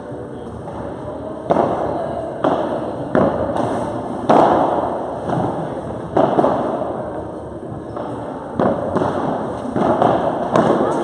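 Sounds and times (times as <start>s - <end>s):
ball struck by rackets echoing: 0.5s - 11.0s.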